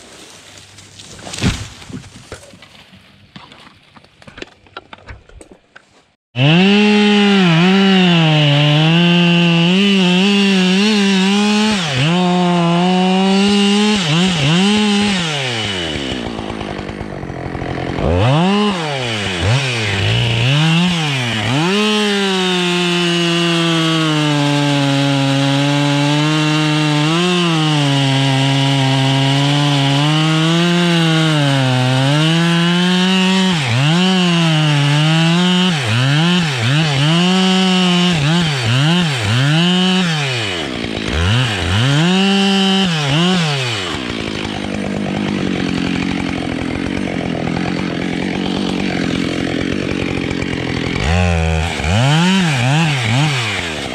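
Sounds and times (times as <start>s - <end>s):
chainsaw cutting wood: 6.4s - 53.9s.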